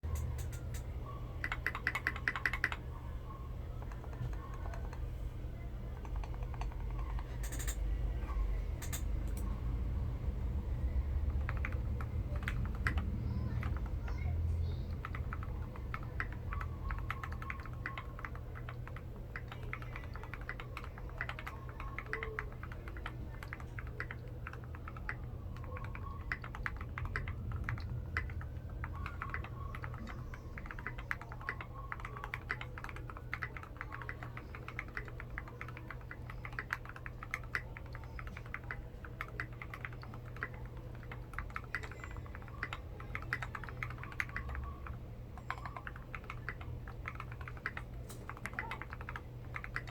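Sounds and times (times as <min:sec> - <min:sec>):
fast typing on mechanical keyboard: 0:00.0 - 0:03.0, 0:03.6 - 0:05.1, 0:05.8 - 0:07.9, 0:08.8 - 0:09.5, 0:10.7 - 0:49.9
steady low hum: 0:00.0 - 0:49.9.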